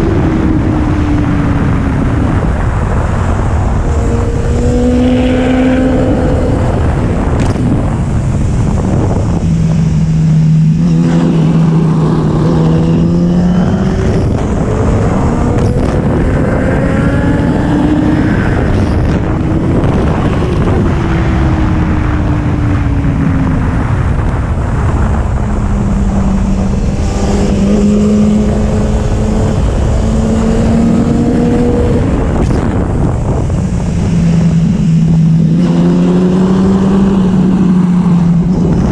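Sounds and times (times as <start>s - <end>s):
motorcycle engine revving: 0.0s - 38.9s
wind noise on microphone: 0.0s - 38.9s.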